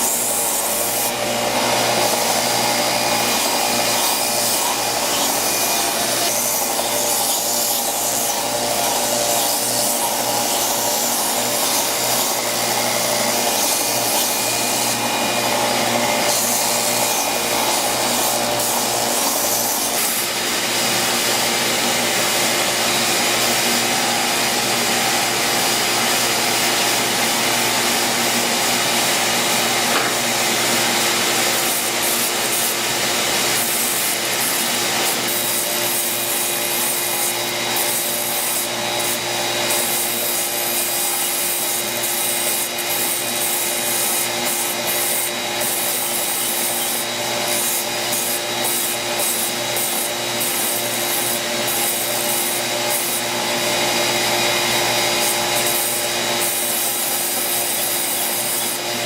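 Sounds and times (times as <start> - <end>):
belt sander sanding wood: 0.0 - 59.0.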